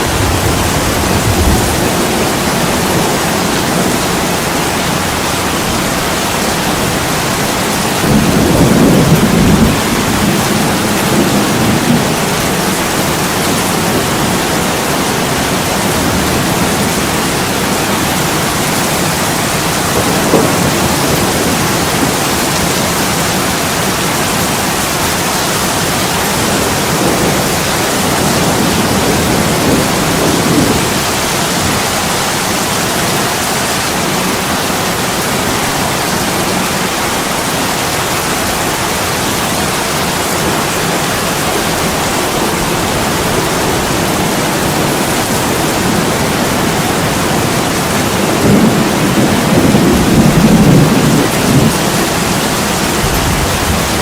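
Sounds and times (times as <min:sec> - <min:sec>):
heavy rain on window glass: 0:00.0 - 0:54.0.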